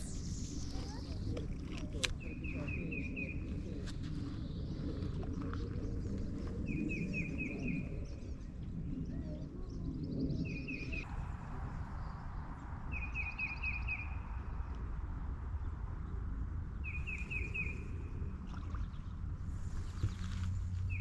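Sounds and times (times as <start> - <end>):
songbird chirping: 0.0 - 14.9, 16.7 - 18.0, 19.8 - 21.0
low outdoor rumble: 0.0 - 21.0.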